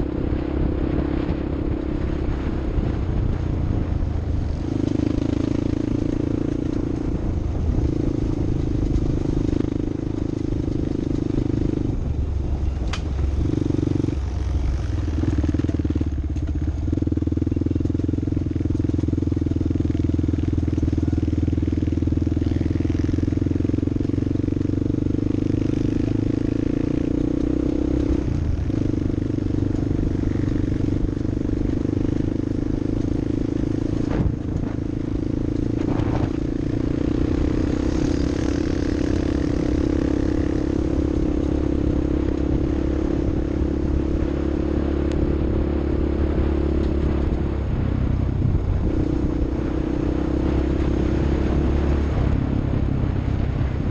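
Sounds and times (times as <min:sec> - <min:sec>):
off-road vehicle engine running: 0:00.0 - 0:53.9.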